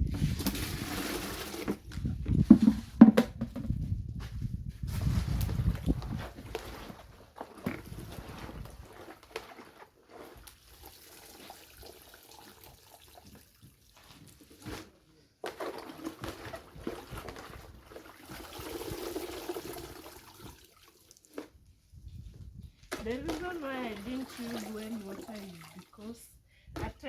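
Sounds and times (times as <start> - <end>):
water pouring and splashing: 0.0 - 2.7, 4.8 - 27.0.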